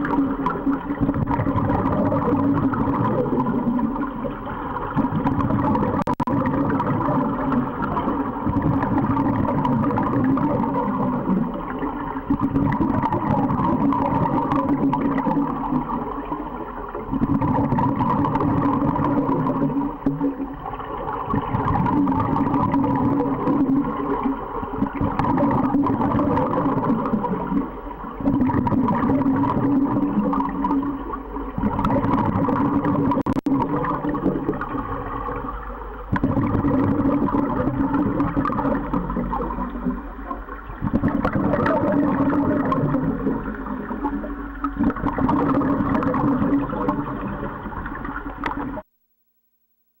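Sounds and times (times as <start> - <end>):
underwater regulator bubbling: 0.0 - 48.8.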